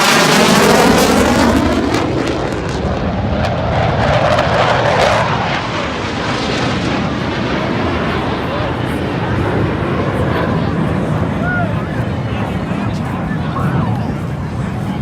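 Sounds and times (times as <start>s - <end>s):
jet passing low and fast: 0.0s - 15.0s.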